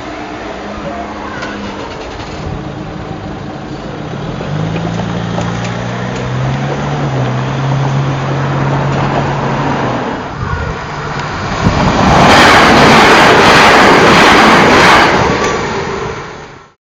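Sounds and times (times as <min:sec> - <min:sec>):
vehicle passing close by: 0:00.0 - 0:16.6.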